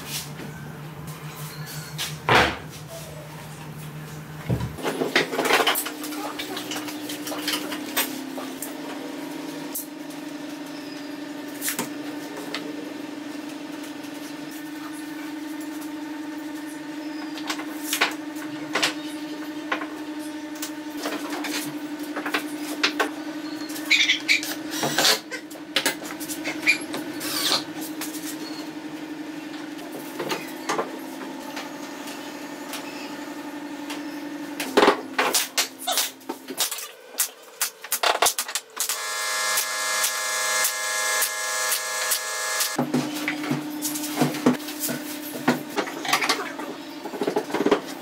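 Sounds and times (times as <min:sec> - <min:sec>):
steady motor hum: 0:00.0 - 0:48.0.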